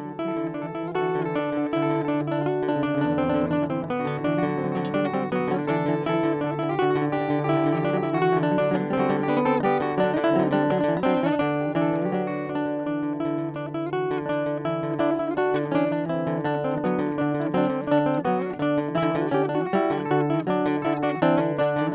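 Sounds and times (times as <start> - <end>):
acoustic guitar music: 0.0 - 21.9.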